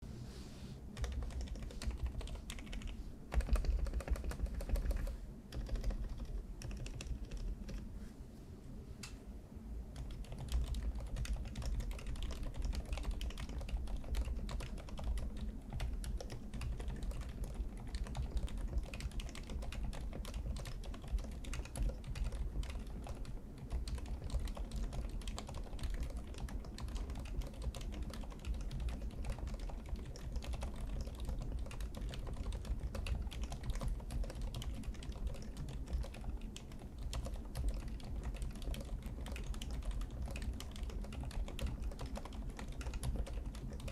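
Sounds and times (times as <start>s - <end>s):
mechanical keyboard typing: 1.0s - 7.8s, 10.0s - 43.9s.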